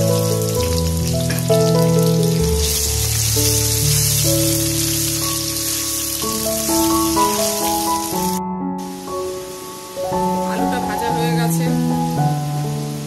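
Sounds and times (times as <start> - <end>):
background music of held notes: 0.0 - 13.0
potatoes sizzling in hot oil: 0.0 - 13.0.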